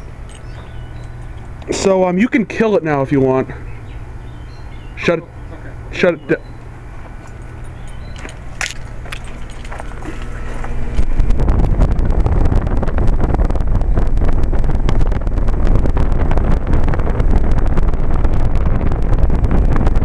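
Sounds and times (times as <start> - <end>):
fan air rumbling on microphone: 0.0 - 20.0
heat pump unit humming: 0.0 - 20.0.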